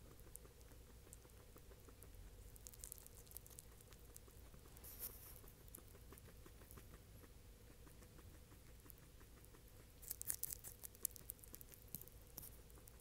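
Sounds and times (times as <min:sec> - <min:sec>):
guinea pig chewing: 0:00.0 - 0:13.0.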